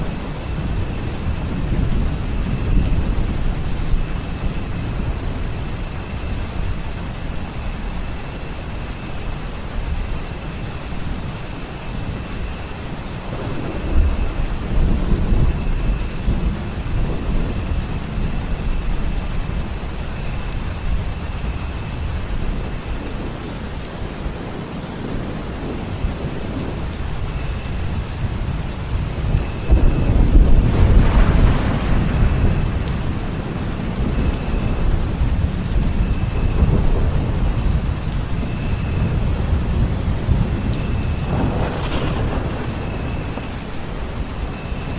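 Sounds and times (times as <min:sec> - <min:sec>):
steady rain falling: 0:00.0 - 0:44.9
thunder rumbling: 0:00.0 - 0:44.9.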